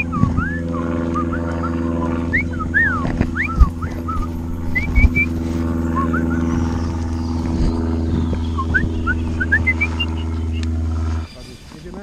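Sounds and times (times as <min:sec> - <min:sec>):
engine droning steadily: 0:00.0 - 0:12.0
short rising high whines: 0:00.0 - 0:12.0.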